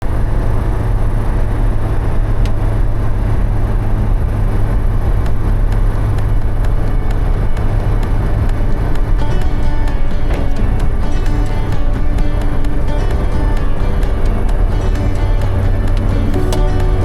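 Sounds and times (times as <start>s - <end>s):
vehicle driving rumble: 0.0s - 17.0s.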